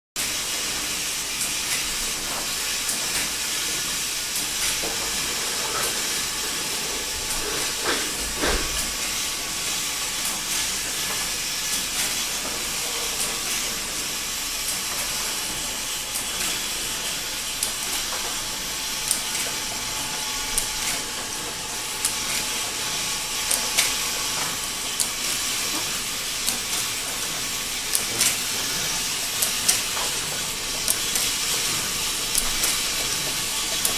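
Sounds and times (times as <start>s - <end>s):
machine hissing: 0.2s - 33.9s.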